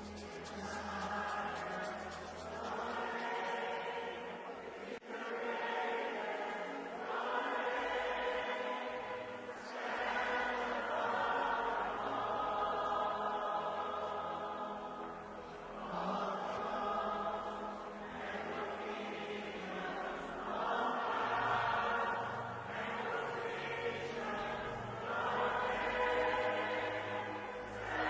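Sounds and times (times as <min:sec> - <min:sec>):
many voices singing worship chant: 0:00.0 - 0:28.0
music: 0:00.0 - 0:28.0.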